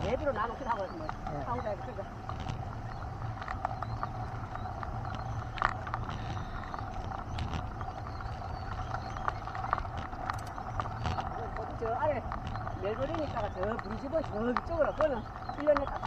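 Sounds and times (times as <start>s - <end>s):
bike clicks and rattles: 0.0s - 16.0s
bike tyres rolling rumble: 0.0s - 16.0s.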